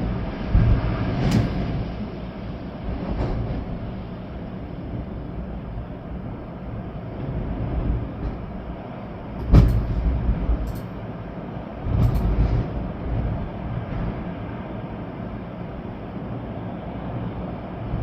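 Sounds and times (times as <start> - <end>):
wind gusts buffeting microphone: 0.0 - 18.0.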